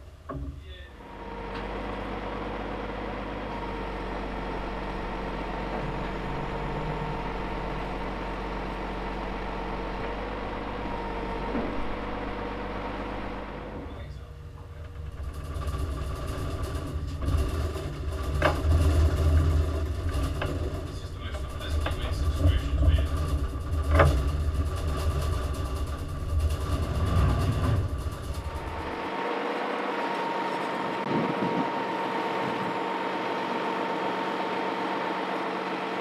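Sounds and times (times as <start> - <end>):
low uneven engine rumble: 0.0 - 36.0
winch humming: 0.0 - 36.0.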